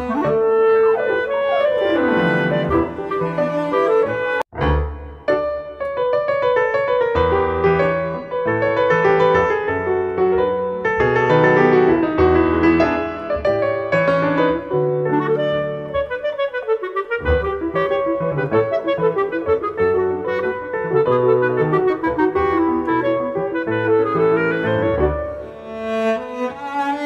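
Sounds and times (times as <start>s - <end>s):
wind instrument melody: 0.0s - 4.7s, 7.2s - 26.6s
piano chords: 0.0s - 27.0s.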